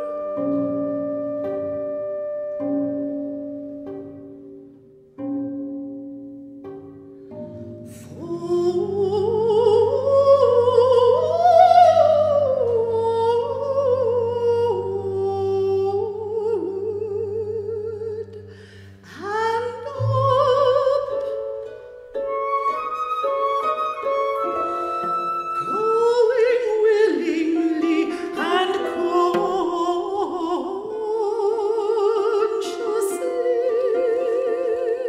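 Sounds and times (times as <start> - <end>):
woman singing opera: 0.0 - 2.5, 7.8 - 35.0
chamber ensemble strings: 0.0 - 35.0.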